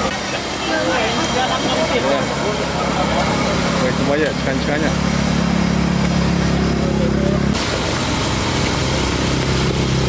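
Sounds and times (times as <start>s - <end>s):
motor engine humming: 0.0s - 10.0s.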